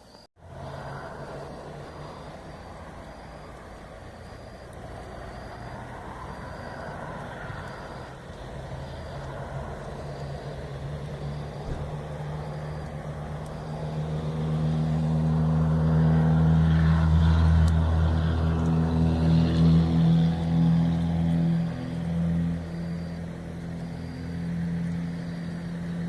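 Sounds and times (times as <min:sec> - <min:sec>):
heavy vehicle engine drone: 0:00.0 - 0:26.0.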